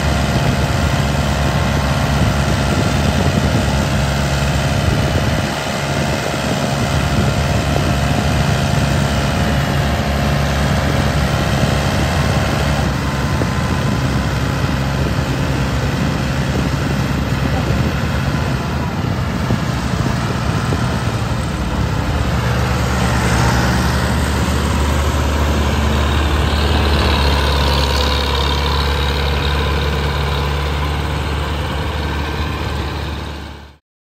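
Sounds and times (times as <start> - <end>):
tractor engines under load: 0.0 - 33.8.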